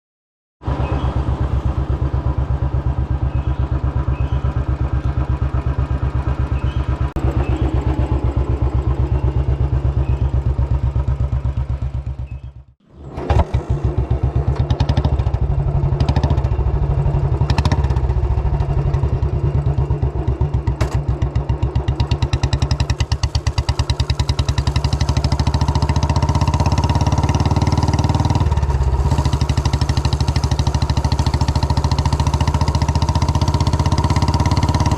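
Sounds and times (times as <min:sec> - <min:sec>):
motorcycle engine running: 0:00.7 - 0:34.9.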